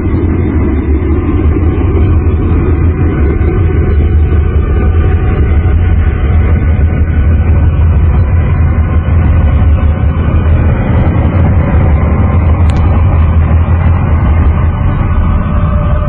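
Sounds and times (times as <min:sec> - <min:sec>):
wind-like rumbling noise: 0:00.0 - 0:16.0.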